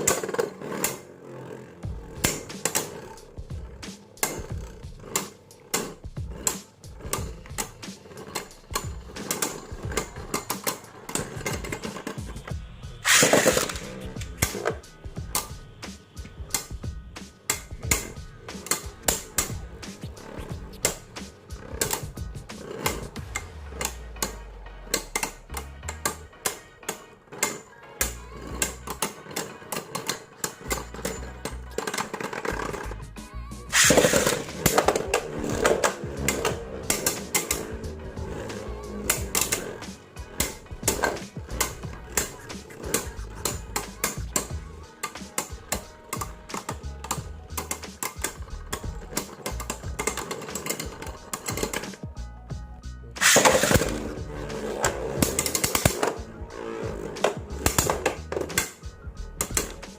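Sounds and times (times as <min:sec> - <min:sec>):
plastic parts clicking: 0:00.0 - 0:52.2, 0:53.1 - 0:59.9
background music with bass: 0:00.0 - 0:59.9.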